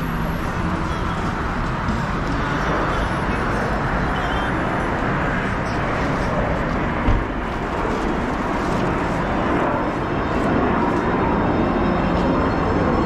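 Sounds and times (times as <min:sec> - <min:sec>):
crowd noise: 0:00.0 - 0:12.9
traffic: 0:00.0 - 0:13.0.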